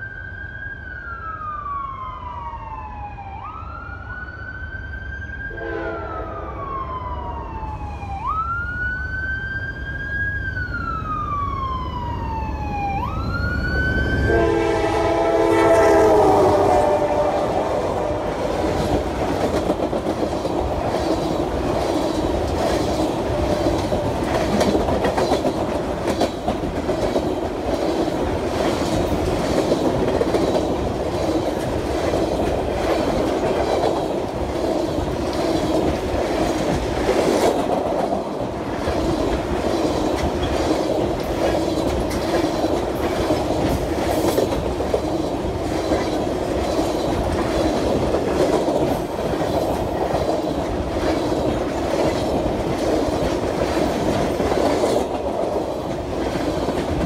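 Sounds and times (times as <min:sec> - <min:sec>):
train rumbling past: 0:05.4 - 0:57.0.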